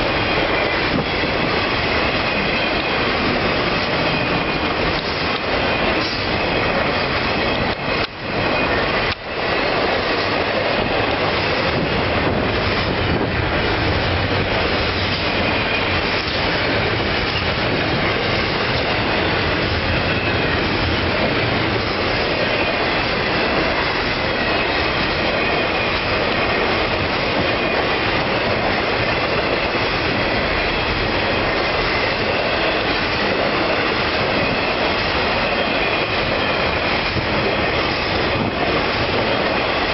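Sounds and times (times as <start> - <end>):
high wheel squeal: 0.0 - 39.9
train wheels rushing on rail: 0.0 - 39.9.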